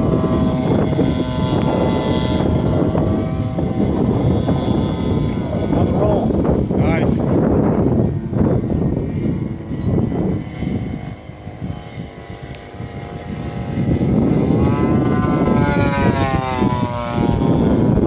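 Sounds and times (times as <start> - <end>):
model airplane engine flying by: 0.0 - 18.0
wind rumble on microphone: 0.0 - 18.0.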